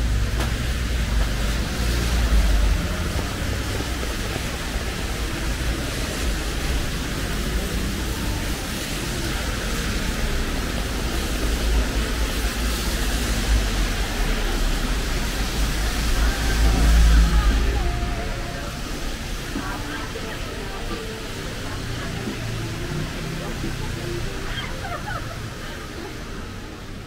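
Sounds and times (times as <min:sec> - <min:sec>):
hiss of falling rain: 0:00.0 - 0:27.0.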